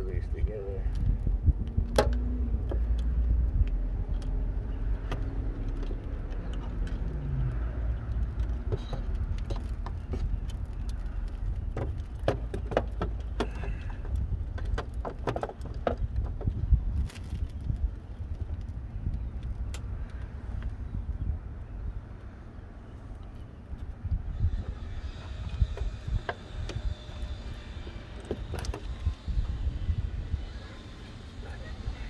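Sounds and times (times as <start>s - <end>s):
steady low rumble: 0.0s - 15.0s, 15.9s - 32.0s.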